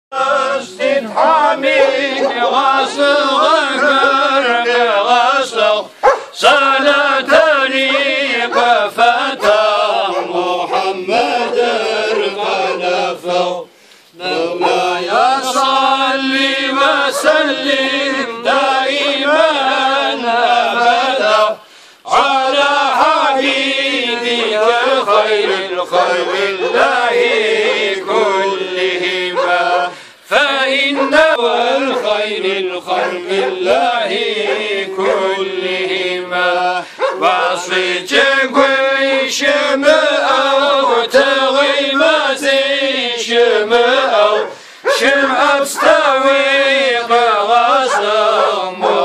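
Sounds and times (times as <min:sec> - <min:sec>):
men chanting a hymn: 0:00.1 - 0:49.0.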